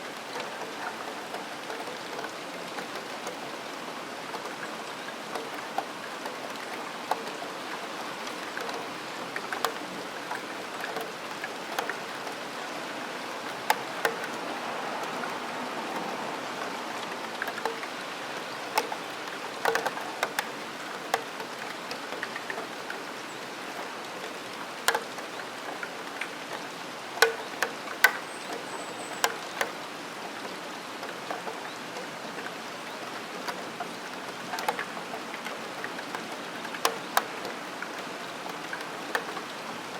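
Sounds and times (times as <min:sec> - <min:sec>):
raindrops pinging on metal: 0:00.0 - 0:39.9
steady hiss of rain: 0:00.0 - 0:39.9.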